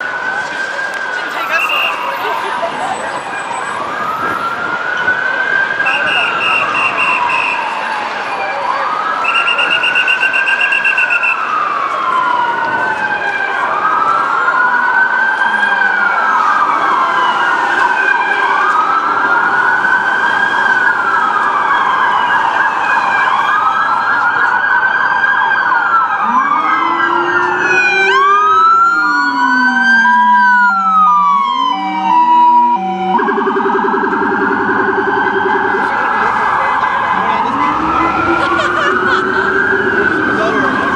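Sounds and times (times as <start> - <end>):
ambulance sirens wailing: 0.0 - 40.9
low-pitched siren sweeping: 0.0 - 40.9.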